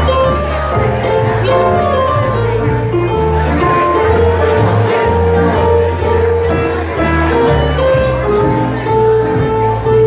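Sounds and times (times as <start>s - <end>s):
jazz band playing swing music: 0.0s - 10.0s.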